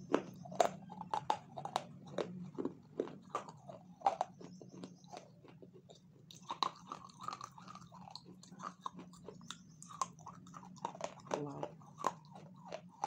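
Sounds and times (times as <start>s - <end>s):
person chewing and crunching food: 0.0s - 13.0s.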